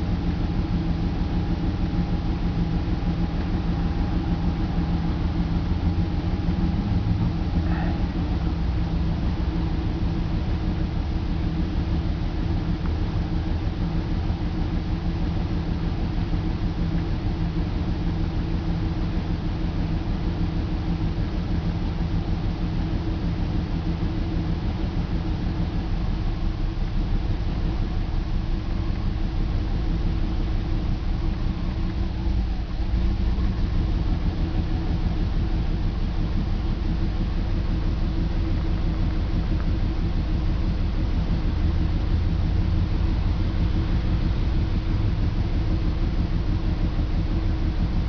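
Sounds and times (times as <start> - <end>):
car engine idling roughly: 0.0 - 48.0.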